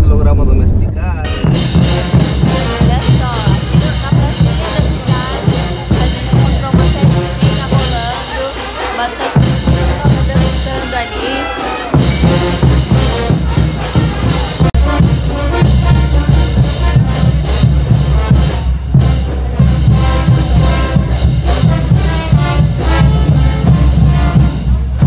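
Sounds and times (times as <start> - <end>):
brass band playing dance music: 1.2 - 25.0.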